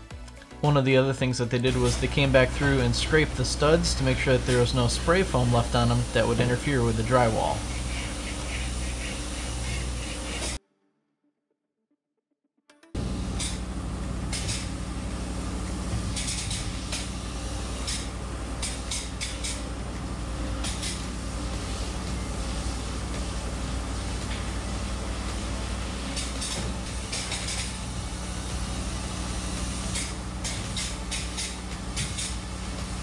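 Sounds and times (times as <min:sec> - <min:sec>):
low hum of machinery: 0:01.1 - 0:10.6, 0:13.0 - 0:33.0
spray-foam gun hissing: 0:01.8 - 0:10.6, 0:13.0 - 0:33.0.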